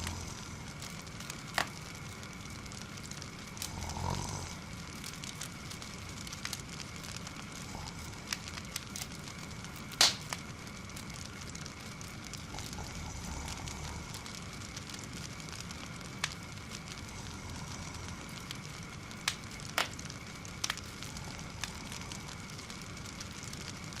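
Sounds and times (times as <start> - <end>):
fire crackling: 0.0 - 24.0
sharp pops of fire: 0.0 - 24.0.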